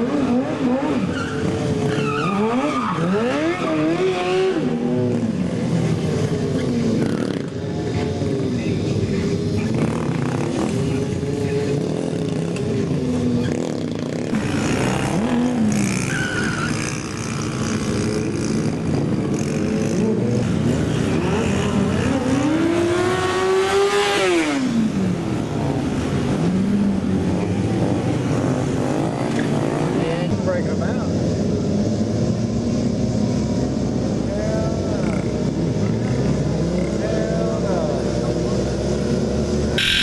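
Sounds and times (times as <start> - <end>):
mini bike engines revving: 0.0 - 40.0.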